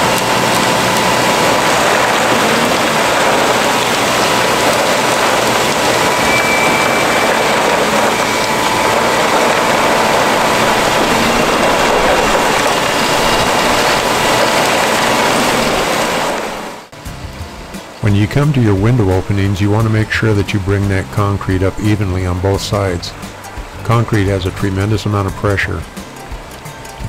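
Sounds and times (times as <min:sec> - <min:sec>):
concrete pump running: 0:00.0 - 0:27.0
truck engine running: 0:00.0 - 0:27.0.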